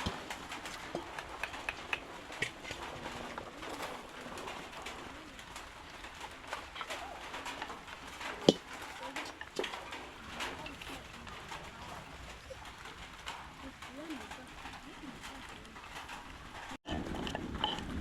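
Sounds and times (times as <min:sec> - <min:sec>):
bird cooing: 0:00.0 - 0:18.0.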